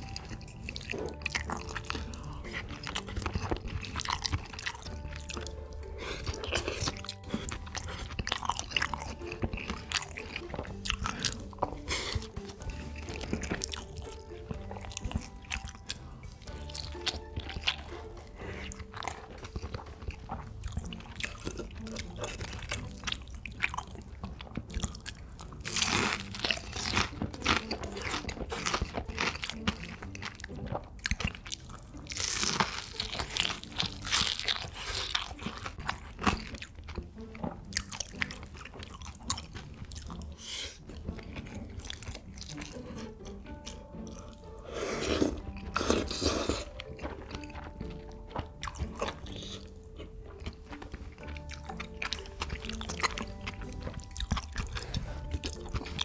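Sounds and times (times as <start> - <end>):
crunching and chewing crisp food: 0.0 - 56.0
faint background music: 0.0 - 56.0.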